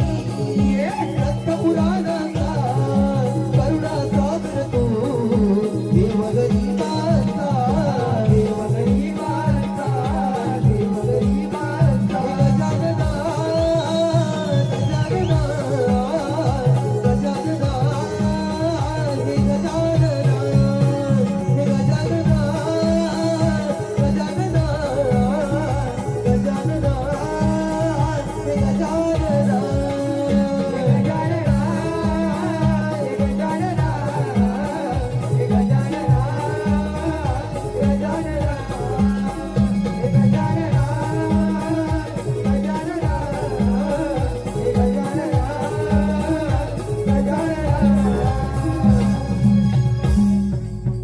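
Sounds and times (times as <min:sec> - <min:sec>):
hand drum beating: 0:00.0 - 0:51.0
instrumental accompaniment: 0:00.0 - 0:51.0.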